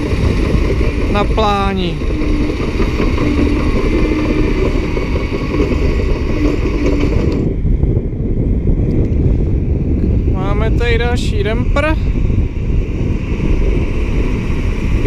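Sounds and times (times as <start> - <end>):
bulldozer engine rumble: 0.0 - 15.0.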